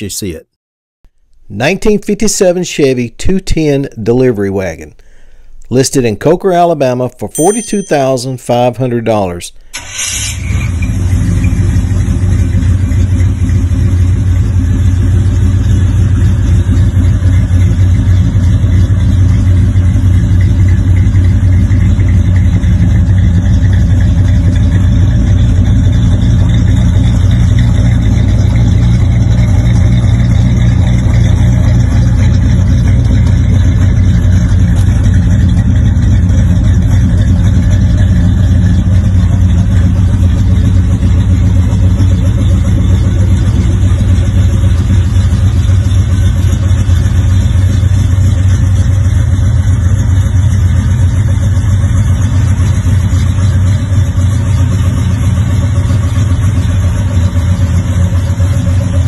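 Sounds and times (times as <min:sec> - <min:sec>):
car engine idling: 0:09.6 - 0:59.0.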